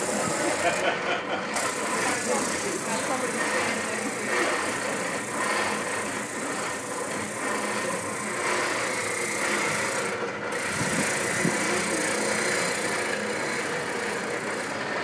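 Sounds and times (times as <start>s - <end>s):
spindle sander running: 0.0s - 15.0s
wood rasping against sanding drum: 0.0s - 15.0s.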